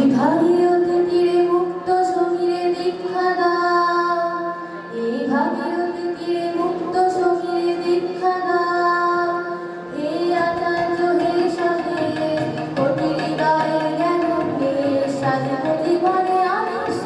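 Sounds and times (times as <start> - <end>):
harmonium: 0.0 - 17.0
light tabla: 0.0 - 17.0.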